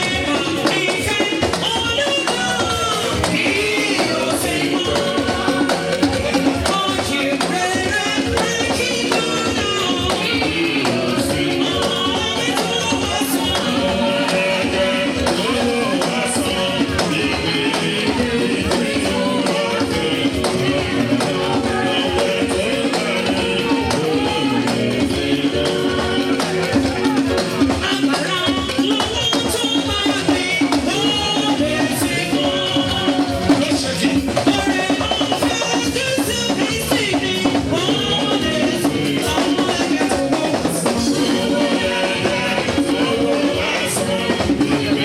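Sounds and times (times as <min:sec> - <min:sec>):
church praise music: 0:00.0 - 0:45.0
hand percussion beat: 0:00.0 - 0:45.0
people singing: 0:00.0 - 0:45.0.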